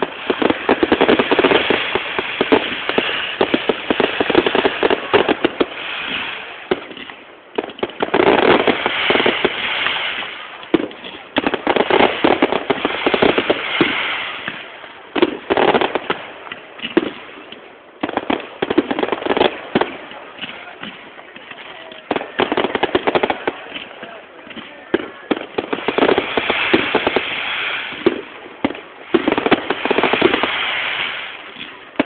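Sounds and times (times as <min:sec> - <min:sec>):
fireworks crackling and popping: 0:00.0 - 0:32.0.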